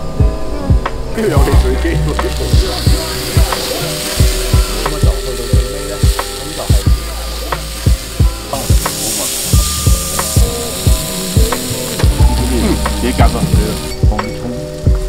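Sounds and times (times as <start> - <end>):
background music with beat: 0.0 - 15.0
food sizzling in a pan: 1.2 - 15.0.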